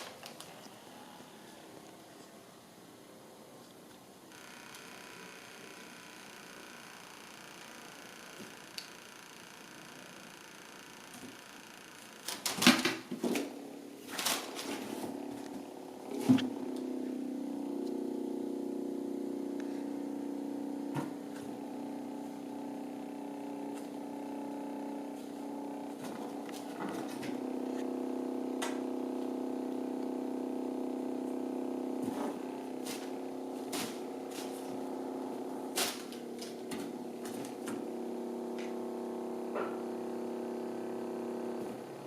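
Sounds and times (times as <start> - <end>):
robot toy buzzing: 4.3 - 12.7, 13.4 - 42.0.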